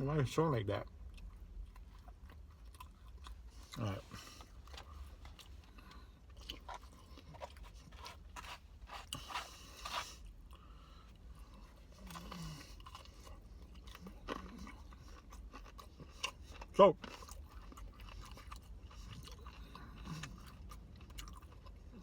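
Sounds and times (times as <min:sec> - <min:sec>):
person chewing crunchy food: 0:00.8 - 0:22.0.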